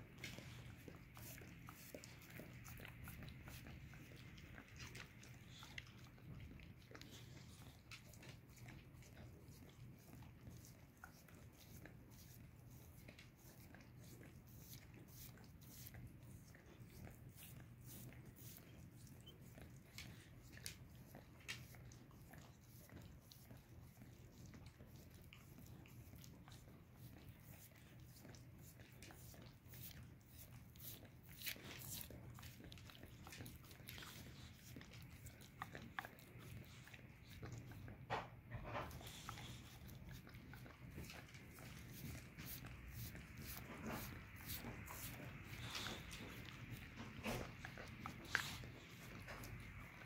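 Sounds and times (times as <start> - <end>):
dog licking wet clicks: 0.0 - 50.0.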